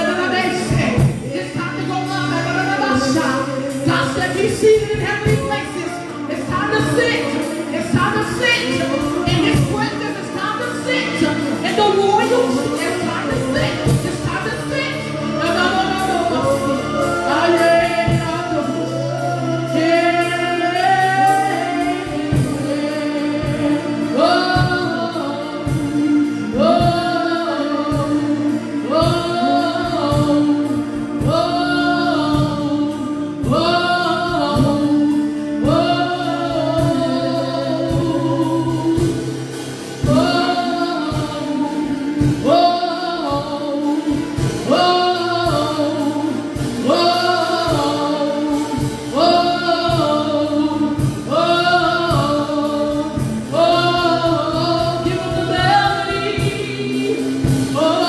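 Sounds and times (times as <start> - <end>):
gospel choir singing: 0.0 - 58.0.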